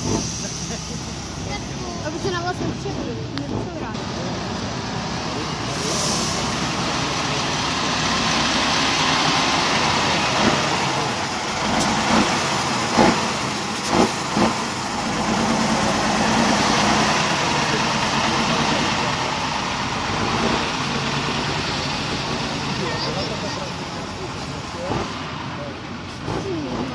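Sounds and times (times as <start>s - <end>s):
truck engine running: 0.0s - 26.9s.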